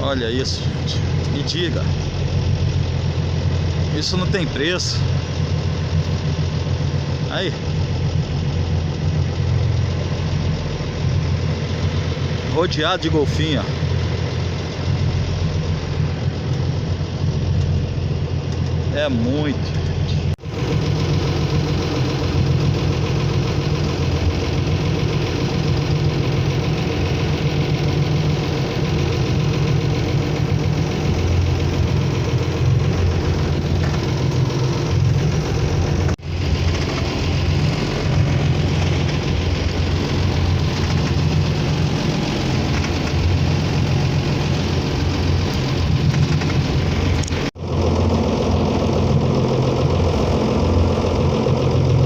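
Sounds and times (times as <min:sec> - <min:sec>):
motorboat engine running: 0:00.0 - 0:52.0.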